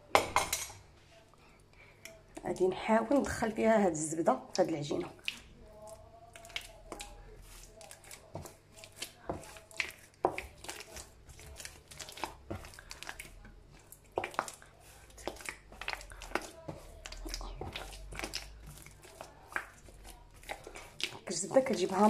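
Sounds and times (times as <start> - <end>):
hands kneading dough: 1.0 - 22.0.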